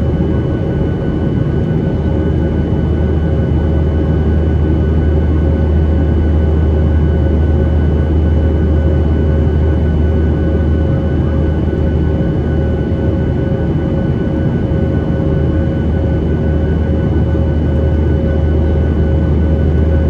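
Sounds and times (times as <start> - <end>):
jet engine cabin drone: 0.0 - 20.0.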